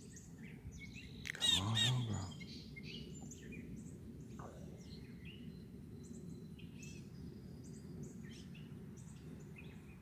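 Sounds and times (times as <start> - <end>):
songbirds chirping: 0.0 - 10.0.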